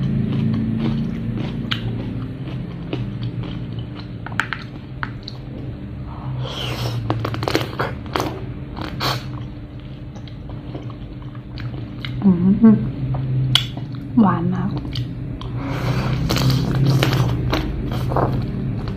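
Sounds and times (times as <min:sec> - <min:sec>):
wet chewing with crunches: 0:00.0 - 0:05.8, 0:06.4 - 0:12.2, 0:14.7 - 0:18.9
steady low hum: 0:00.0 - 0:18.9.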